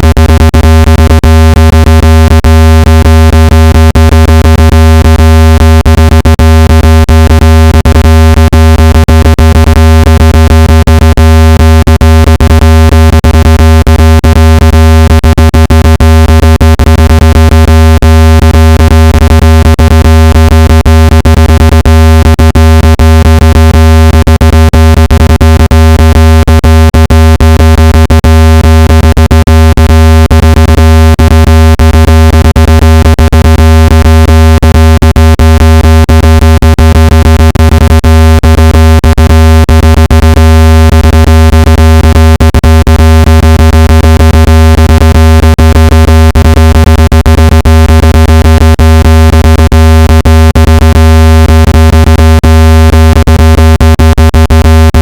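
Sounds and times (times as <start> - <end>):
loud low buzzing tone: 0.0 - 55.0.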